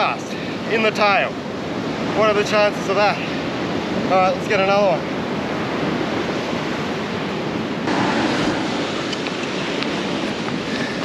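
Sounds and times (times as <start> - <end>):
waves breaking on beach: 0.0 - 11.0
wind buffeting microphone: 0.0 - 11.0.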